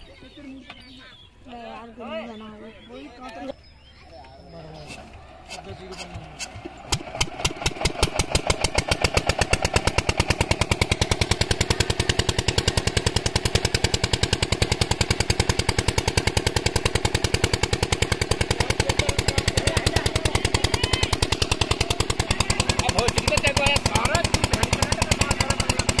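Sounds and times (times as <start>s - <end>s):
diesel engine running: 3.6s - 26.0s.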